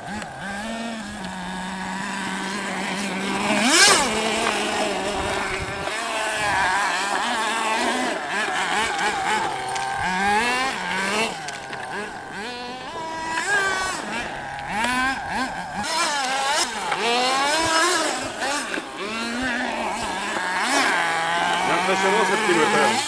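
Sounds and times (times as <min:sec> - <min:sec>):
small nitro engine revving: 0:00.0 - 0:23.0.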